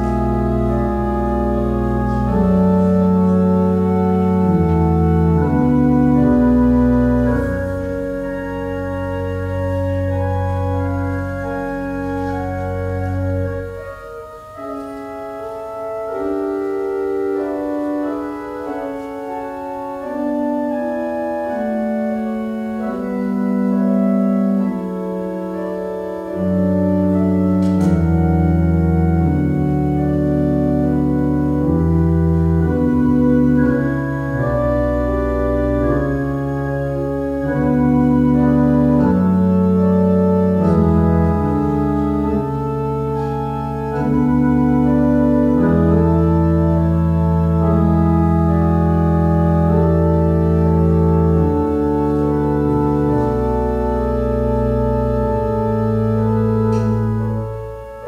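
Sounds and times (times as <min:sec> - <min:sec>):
church organ chords: 0:00.0 - 0:58.0.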